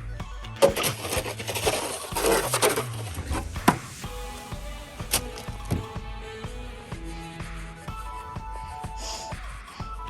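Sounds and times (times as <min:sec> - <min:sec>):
background music held notes: 0:00.0 - 0:10.0.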